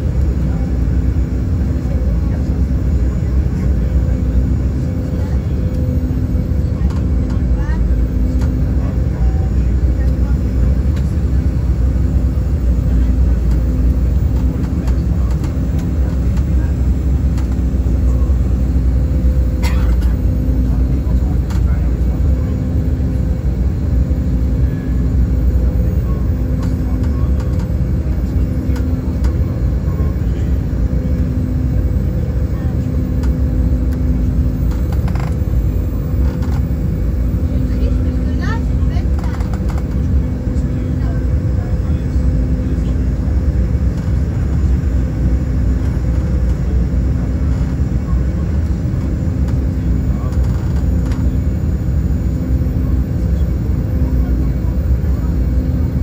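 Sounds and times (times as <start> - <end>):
jet engine rumble: 0.0 - 56.0
steady hum: 0.0 - 56.0.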